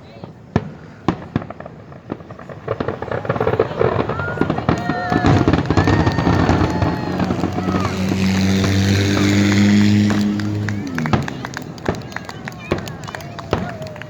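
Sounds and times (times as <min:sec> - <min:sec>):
firework whistles: 0:00.0 - 0:14.0
fireworks bangs and crackling: 0:00.0 - 0:14.0.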